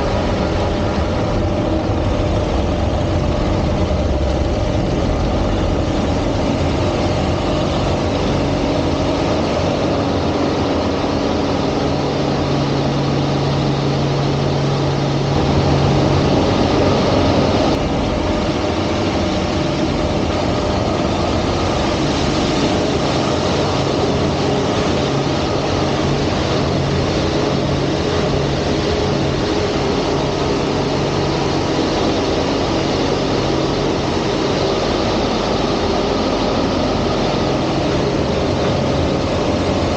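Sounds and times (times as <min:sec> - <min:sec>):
airplane piston engine and propeller: 0:00.0 - 0:39.9.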